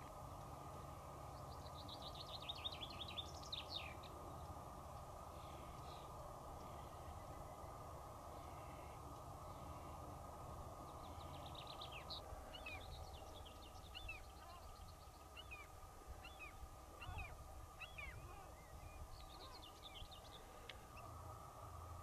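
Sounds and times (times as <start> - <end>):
faint low background noise: 0.0 - 22.0
small birds chirping: 0.2 - 21.2.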